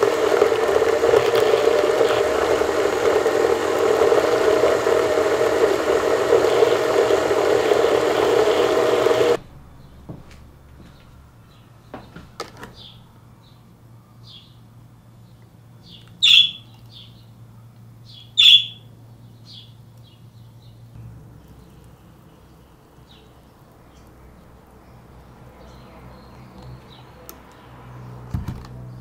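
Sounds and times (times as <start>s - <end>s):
low steady hum: 0.0s - 26.8s
birds chirping: 0.0s - 28.3s.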